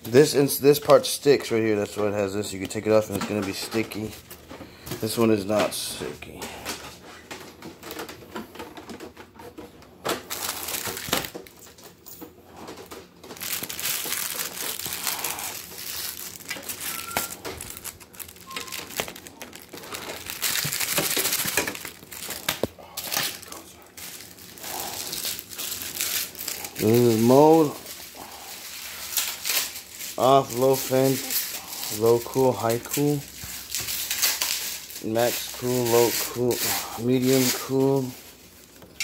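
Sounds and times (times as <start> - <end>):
plastic bags crinkling: 0.4 - 39.0.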